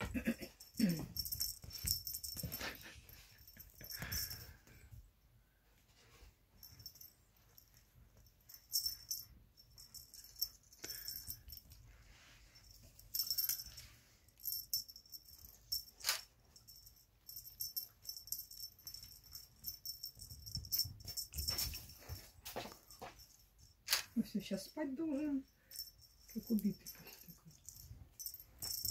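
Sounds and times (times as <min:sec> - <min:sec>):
cat toy bell jingling: 0:00.0 - 0:05.0, 0:06.0 - 0:28.9.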